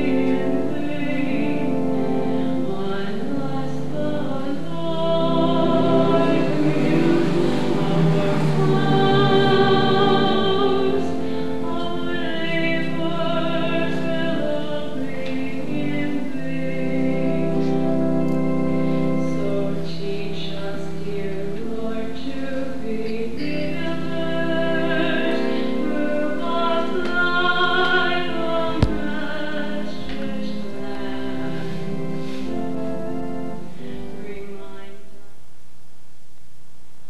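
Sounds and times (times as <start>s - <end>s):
sustained instrumental accompaniment: 0.0s - 21.8s, 23.3s - 34.3s
person singing with vibrato: 0.0s - 35.2s.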